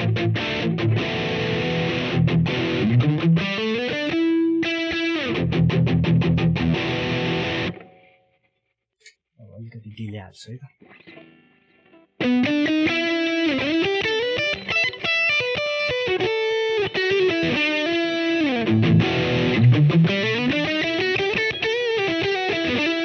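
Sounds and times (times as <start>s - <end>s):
distorted electric guitar lead: 0.0s - 8.1s, 12.2s - 23.0s.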